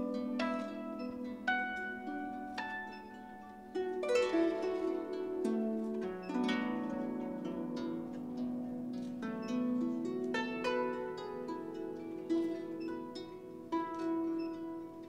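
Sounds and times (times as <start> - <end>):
harp plucked notes: 0.0 - 15.0.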